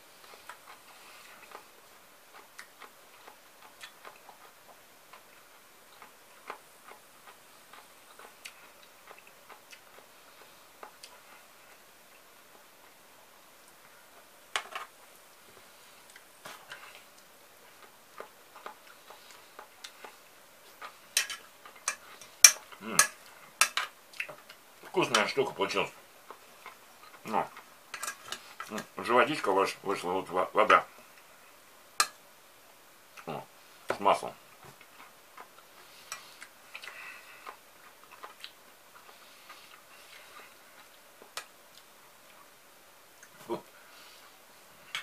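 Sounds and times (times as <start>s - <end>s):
soft chewing: 0.0s - 30.1s, 30.8s - 45.0s.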